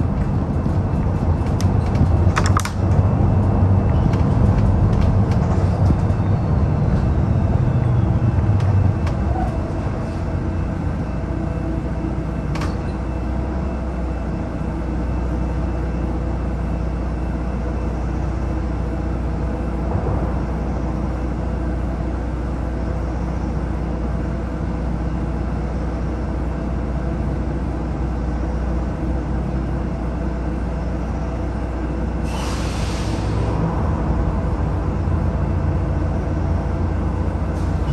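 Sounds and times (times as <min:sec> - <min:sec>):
bus engine drone: 0:00.0 - 0:37.9
road rumble: 0:00.0 - 0:37.9.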